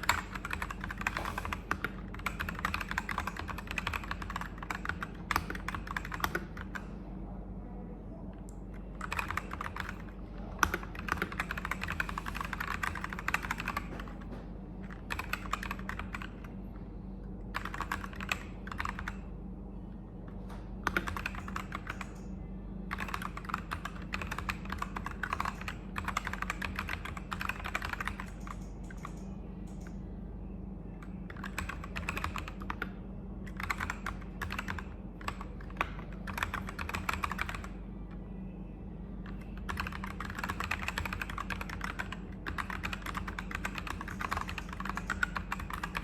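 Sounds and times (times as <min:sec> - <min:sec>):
clicky mechanical keyboard typing: 0:00.0 - 0:06.9, 0:08.5 - 0:16.5, 0:17.5 - 0:19.3, 0:20.5 - 0:22.3, 0:22.9 - 0:30.0, 0:31.0 - 0:37.8, 0:39.2 - 0:46.0.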